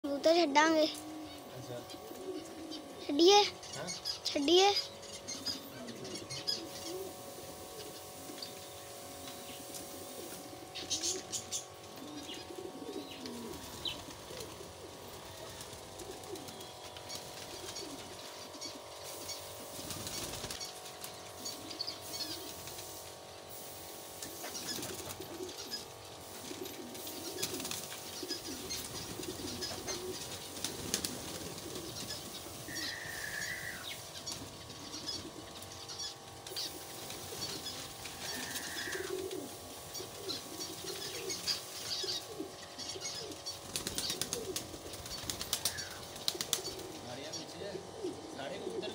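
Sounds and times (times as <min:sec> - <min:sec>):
pigeons cooing: 0:00.1 - 0:48.9
wings fluttering: 0:00.2 - 0:48.9.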